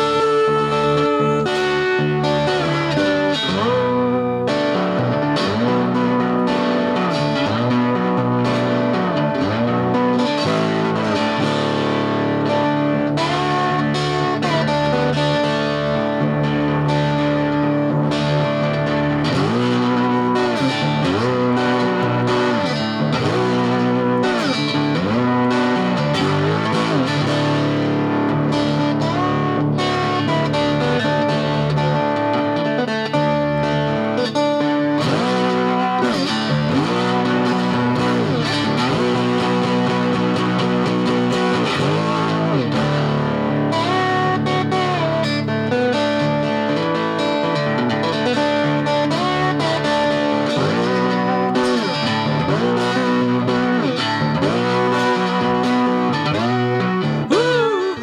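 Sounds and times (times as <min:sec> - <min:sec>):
slide lap steel guitar: 0:00.0 - 0:58.0.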